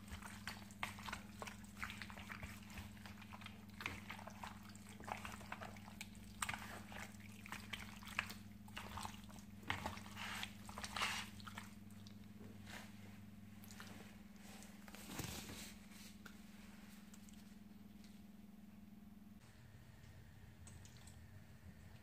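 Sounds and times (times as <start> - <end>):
wet squelches of raw chicken: 0.0 - 18.3.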